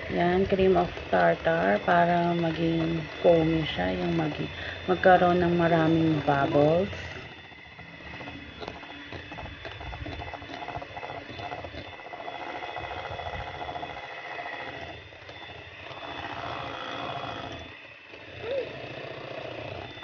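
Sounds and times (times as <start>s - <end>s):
electric hand mixer whining: 0.0s - 20.0s.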